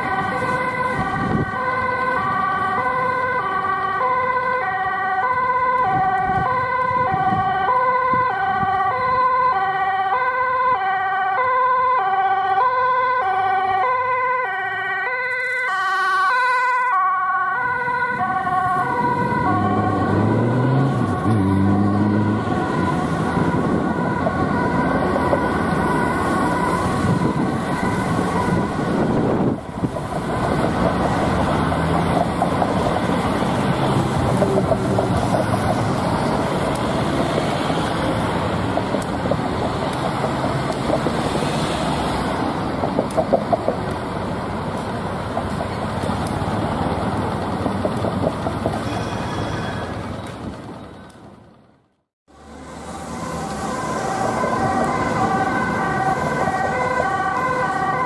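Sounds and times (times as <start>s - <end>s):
ambulance siren: 0.0s - 44.8s, 48.7s - 58.0s
city traffic noise: 0.0s - 58.0s.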